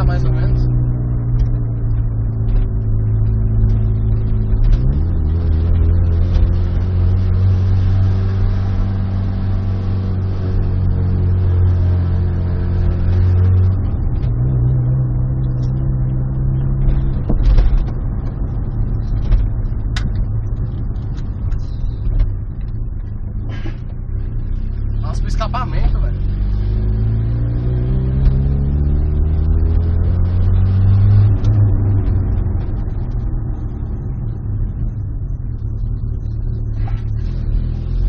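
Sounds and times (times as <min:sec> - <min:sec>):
car engine with loud exhaust: 0:00.0 - 0:38.0.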